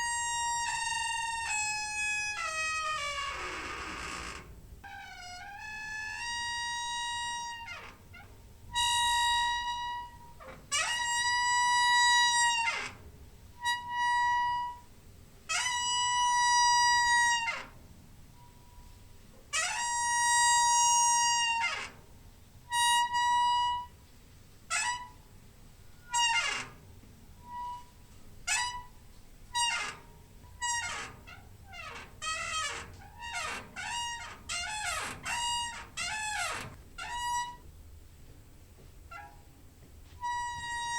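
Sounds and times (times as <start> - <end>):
door hinge squeaking: 0.0 - 24.0, 24.7 - 37.8, 39.0 - 40.9.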